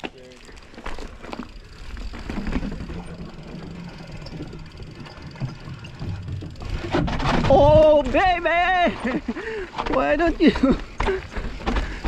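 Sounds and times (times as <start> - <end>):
bike clicks and rattles: 0.0 - 12.0
bike tyre noise on dirt: 0.0 - 12.0.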